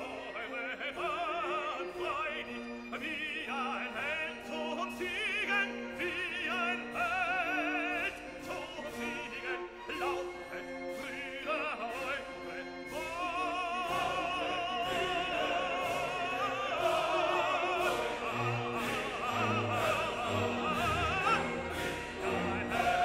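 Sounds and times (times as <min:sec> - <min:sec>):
operatic singing: 0:00.0 - 0:23.0
orchestra playing: 0:00.0 - 0:23.0.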